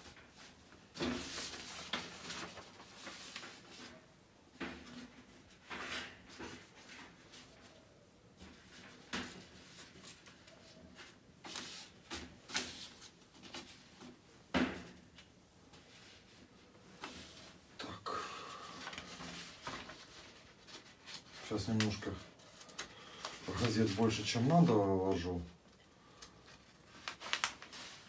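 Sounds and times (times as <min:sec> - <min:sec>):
newspaper rustling and crinkling: 0:00.0 - 0:14.2, 0:18.5 - 0:28.0.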